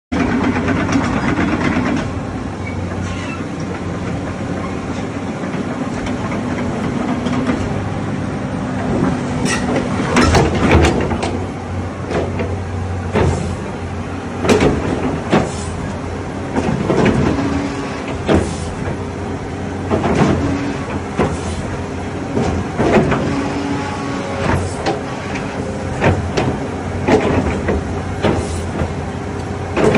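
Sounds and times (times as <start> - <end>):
excavator diesel engine running: 0.1 - 29.9.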